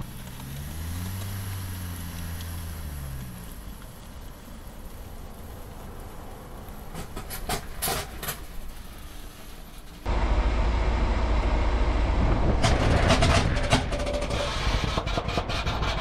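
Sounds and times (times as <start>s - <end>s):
tyre roar on asphalt: 0.0s - 16.0s.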